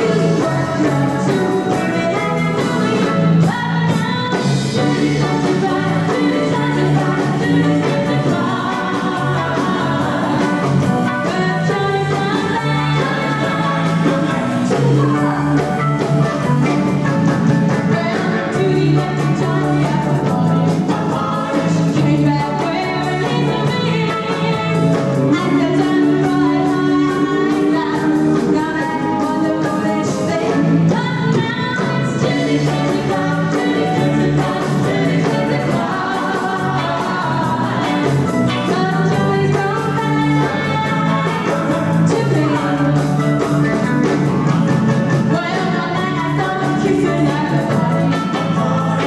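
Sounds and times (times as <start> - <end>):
live rock and roll band: 0.0 - 49.0
person singing: 0.0 - 49.0.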